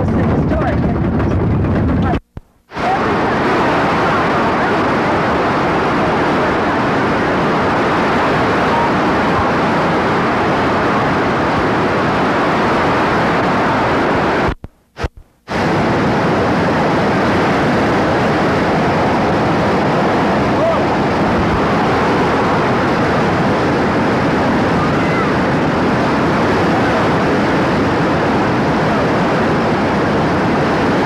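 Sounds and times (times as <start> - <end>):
stream rushing over boulders: 2.7 - 31.0.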